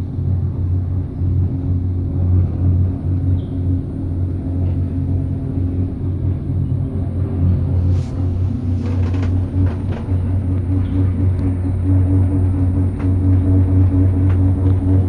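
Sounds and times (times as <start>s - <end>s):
gondola cabin low rumble: 0.0s - 15.0s.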